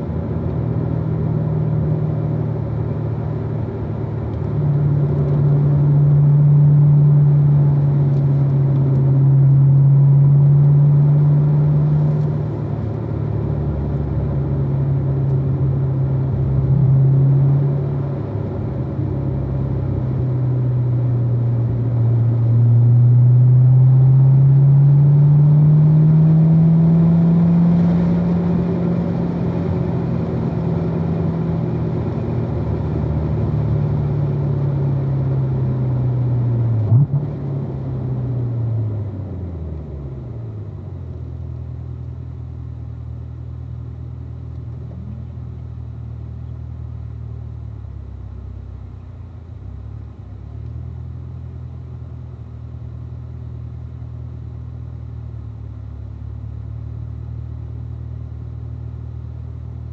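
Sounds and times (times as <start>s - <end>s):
car engine running: 0.0s - 25.6s, 27.2s - 59.9s.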